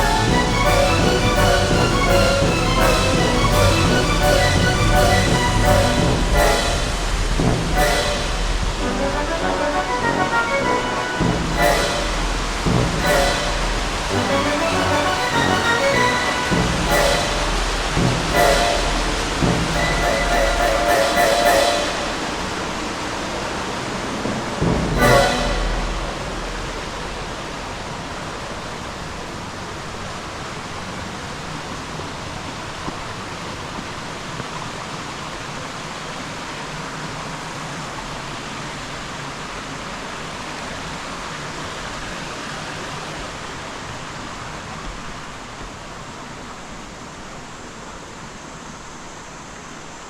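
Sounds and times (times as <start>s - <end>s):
waterfall and stream rushing: 0.0s - 50.0s.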